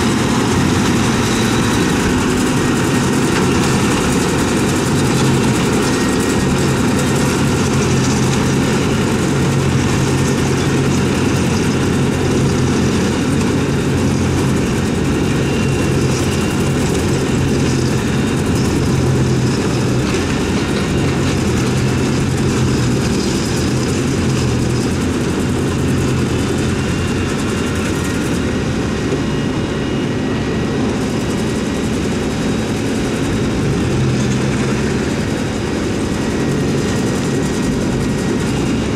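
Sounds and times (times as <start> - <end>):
second tractor running: 0.0 - 38.9
tractor engine working under load: 0.0 - 38.9.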